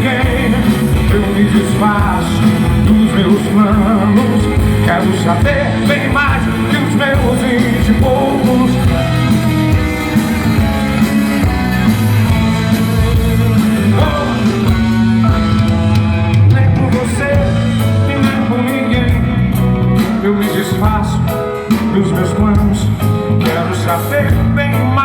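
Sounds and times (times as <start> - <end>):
live rock band instrumental: 0.0 - 25.0.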